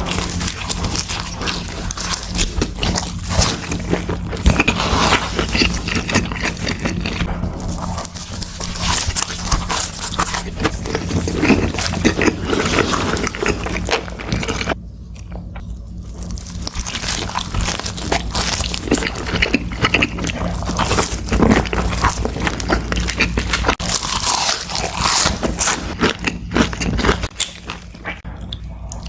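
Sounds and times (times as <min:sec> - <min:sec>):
crunchy bites and wet chewing: 0:00.0 - 0:29.0.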